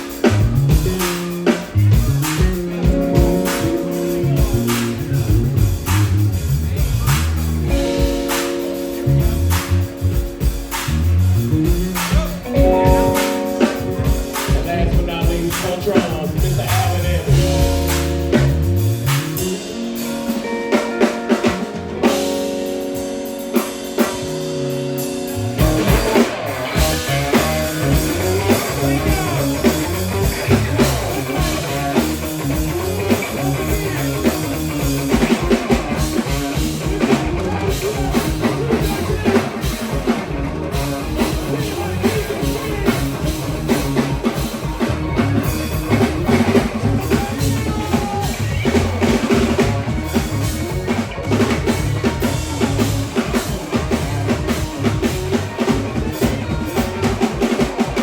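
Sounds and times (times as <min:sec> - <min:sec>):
drums steady beat: 0:00.0 - 0:58.0
rock guitar chords: 0:00.0 - 0:58.0.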